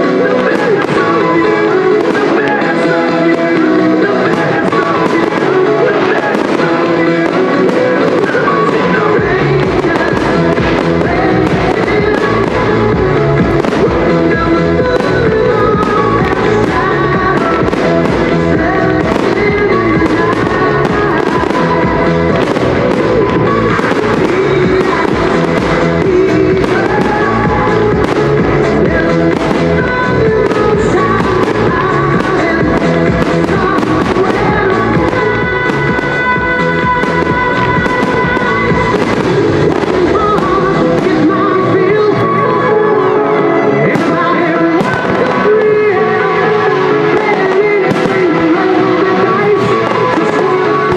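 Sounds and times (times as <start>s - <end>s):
fireworks bangs and crackles: 0.0s - 50.9s
loud music: 0.0s - 50.9s.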